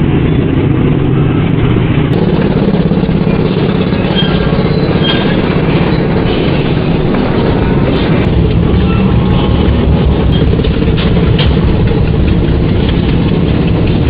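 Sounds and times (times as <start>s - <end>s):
motorcycle and car engines rumbling: 0.0s - 14.0s.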